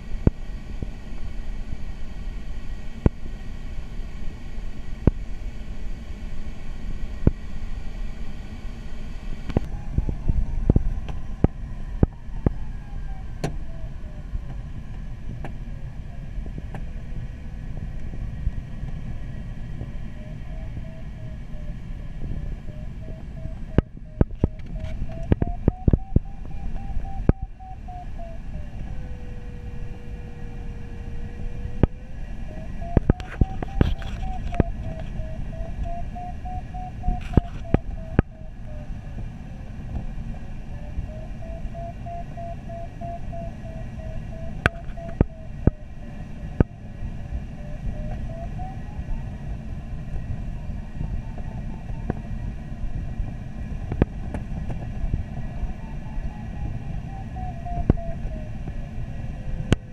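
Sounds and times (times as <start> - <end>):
rumble of airflow: 0.0 - 59.9
variometer tone wavering in pitch: 0.0 - 59.9.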